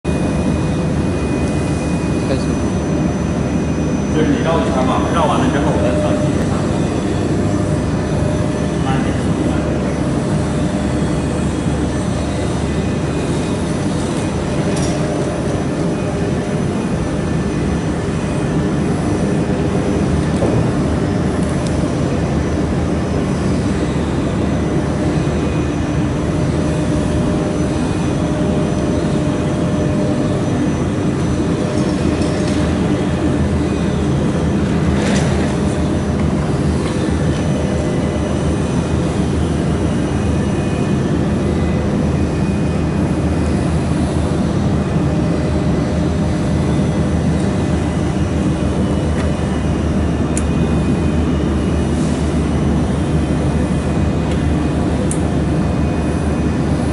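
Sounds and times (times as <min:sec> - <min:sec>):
welding machine humming: 0:00.1 - 0:56.9.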